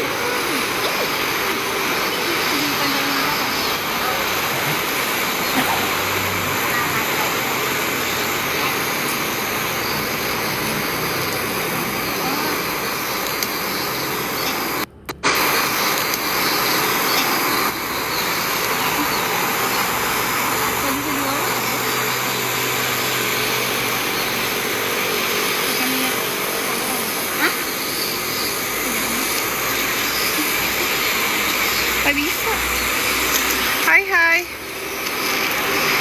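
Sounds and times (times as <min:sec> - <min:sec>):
faint voices: 0:00.0 - 0:13.4, 0:14.4 - 0:36.0
steady rushing noise: 0:00.0 - 0:36.0.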